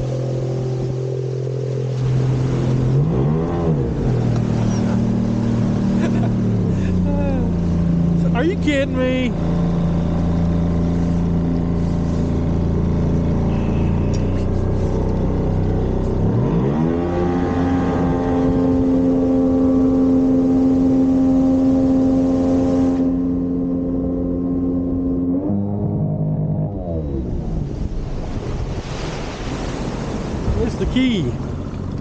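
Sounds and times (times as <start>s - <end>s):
motorboat engine running: 0.0s - 32.0s.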